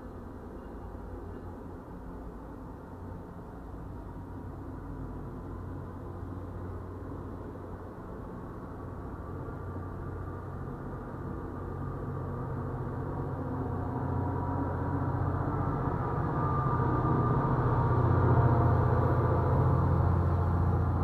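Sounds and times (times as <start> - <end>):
diesel locomotive engine drone: 0.0 - 21.0
rail coaches rolling past: 0.0 - 21.0.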